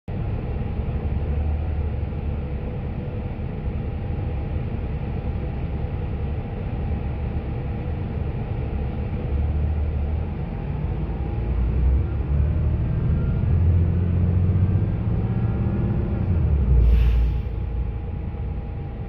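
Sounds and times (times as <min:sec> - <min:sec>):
bus engine droning: 0:00.1 - 0:19.0.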